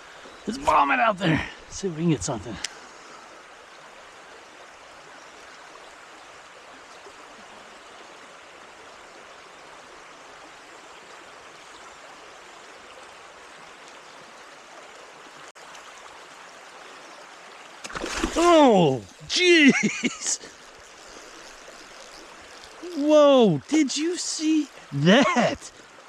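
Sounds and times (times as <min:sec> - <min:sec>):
creek water running: 0:00.0 - 0:26.0.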